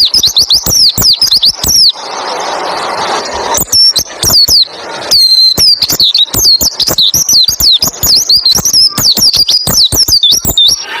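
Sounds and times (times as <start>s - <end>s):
bird singing chirps and trills: 0.0s - 11.0s.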